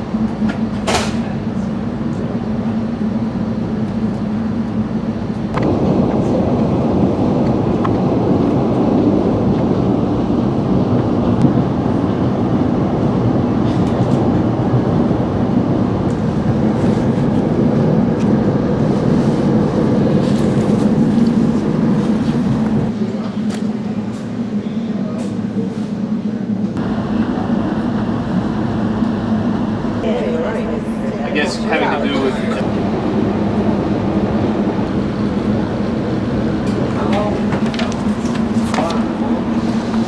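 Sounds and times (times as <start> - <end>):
train rumbling inside carriage: 0.0 - 40.0.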